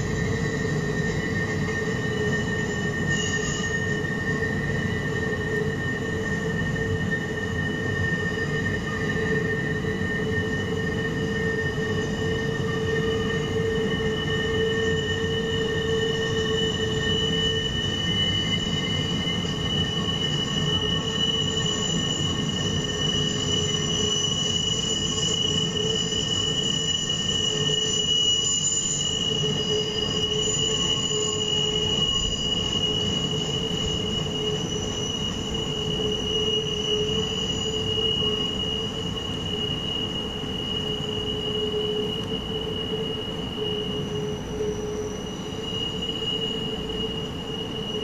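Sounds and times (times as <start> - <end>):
low rumble of rolling train: 0.0 - 48.0
train wheels squealing on rail: 0.0 - 48.0.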